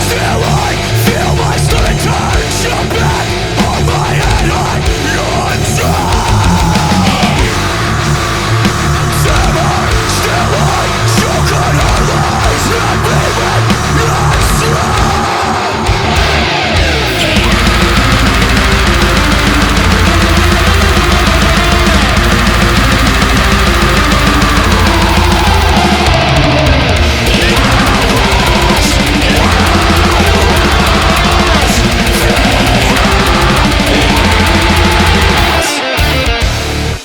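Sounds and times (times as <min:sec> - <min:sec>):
loud music with heavy beat: 0:00.0 - 0:37.0.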